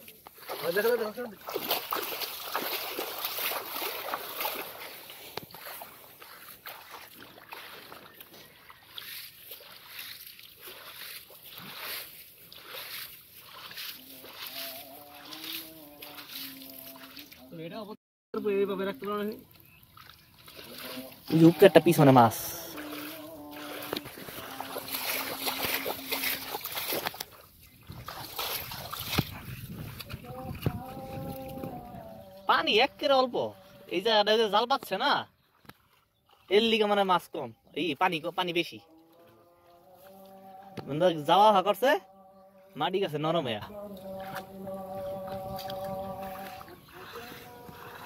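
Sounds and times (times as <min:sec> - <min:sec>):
splashing in muddy water: 0:00.0 - 0:17.7, 0:18.8 - 0:33.9, 0:34.8 - 0:37.1, 0:38.1 - 0:41.7, 0:43.6 - 0:48.0.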